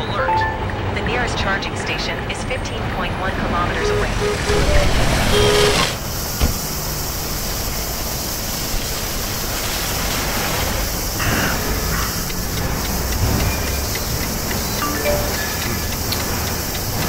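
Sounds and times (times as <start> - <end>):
steady rushing noise: 2.6 - 17.0.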